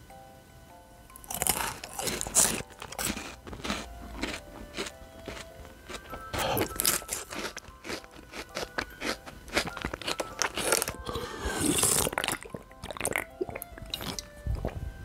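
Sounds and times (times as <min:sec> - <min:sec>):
soft background music: 0:00.0 - 0:15.0
crunching dry noodles: 0:01.2 - 0:14.8.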